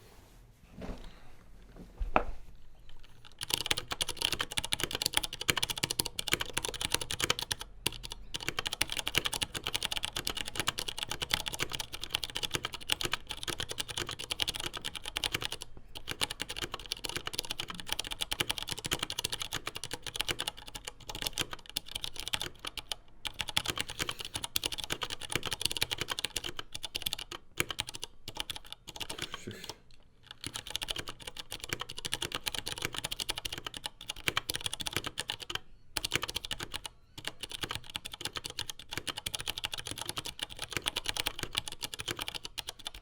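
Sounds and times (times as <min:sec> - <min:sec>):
fast mechanical keyboard typing: 0:03.1 - 0:29.4, 0:30.2 - 0:43.0.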